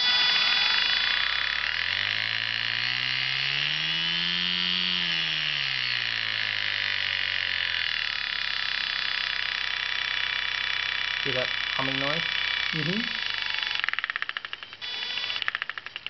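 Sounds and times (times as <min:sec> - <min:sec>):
model plane electric motor whine: 0:00.0 - 0:15.9.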